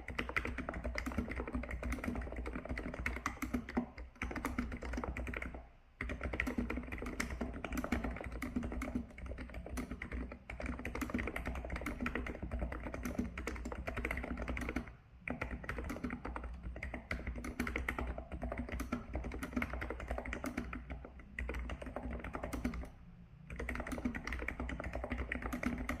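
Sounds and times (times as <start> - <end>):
fast typing on keyboard: 0.0 - 26.0.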